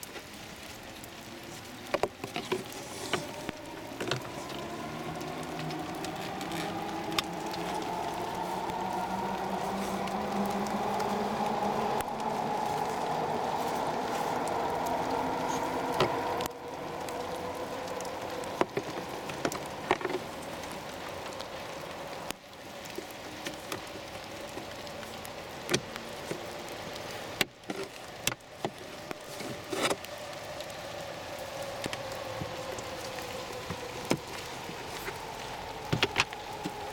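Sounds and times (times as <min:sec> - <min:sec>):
steady background hiss: 0:00.0 - 0:36.9.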